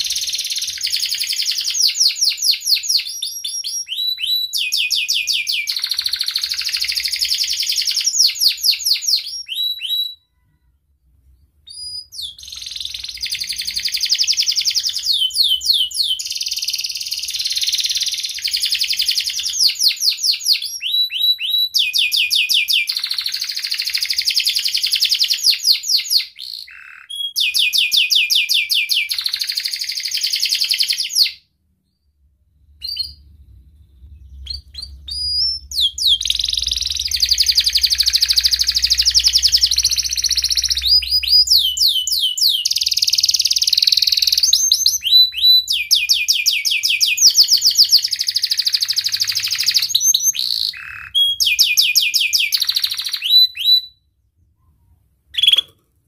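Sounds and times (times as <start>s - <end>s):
canary singing trills: 0.0s - 10.5s, 11.3s - 54.0s, 54.6s - 55.8s.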